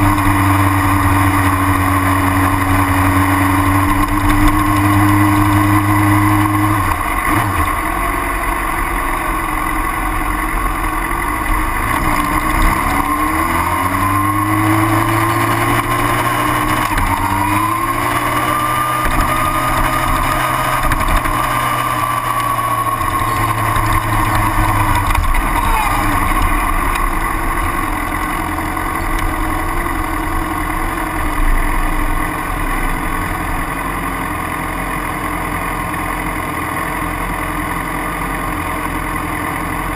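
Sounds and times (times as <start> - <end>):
vehicle engine accelerating: 0.0 - 39.9
wind and road noise: 0.0 - 39.9.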